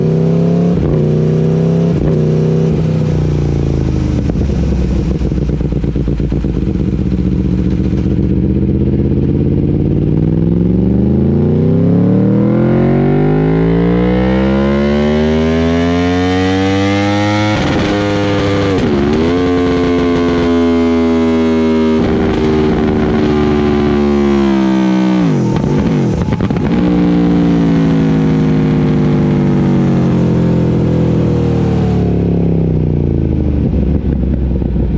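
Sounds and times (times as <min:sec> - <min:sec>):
motorcycle engine revving on dyno: 0:00.0 - 0:33.3.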